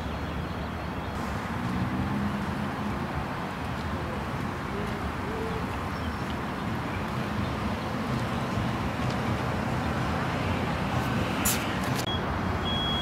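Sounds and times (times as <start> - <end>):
distant traffic hum: 0.0 - 13.0
even rush of noise: 1.1 - 12.5.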